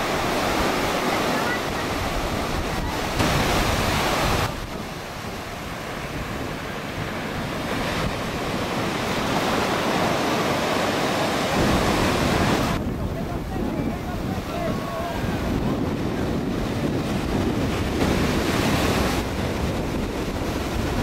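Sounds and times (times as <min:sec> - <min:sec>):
ocean surf breaking: 0:00.0 - 0:21.0
wind rumbling on microphone: 0:00.0 - 0:21.0.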